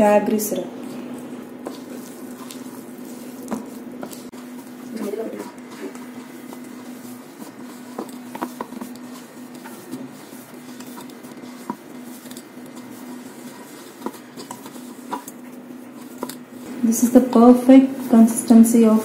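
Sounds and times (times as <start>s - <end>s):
hand kneading sticky dough: 0.0s - 19.0s
steady low hum: 0.0s - 19.0s.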